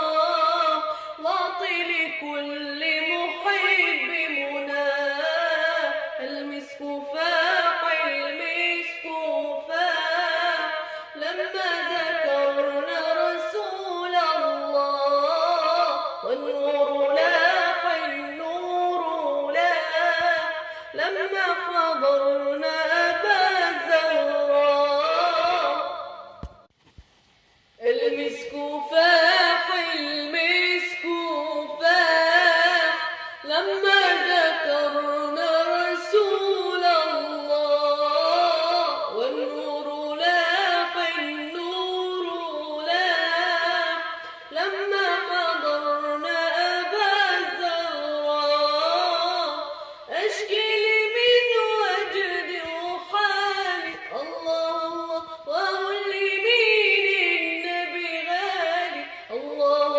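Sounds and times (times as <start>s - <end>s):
person singing unaccompanied: 0.0s - 26.6s, 27.8s - 59.9s.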